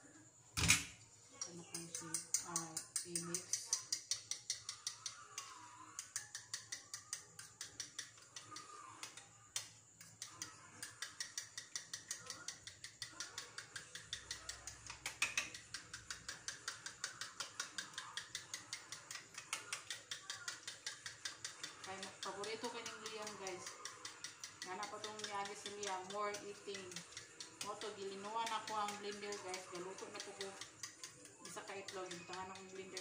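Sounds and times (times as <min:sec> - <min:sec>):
utensil beating eggs in a bowl: 0:01.3 - 0:33.0.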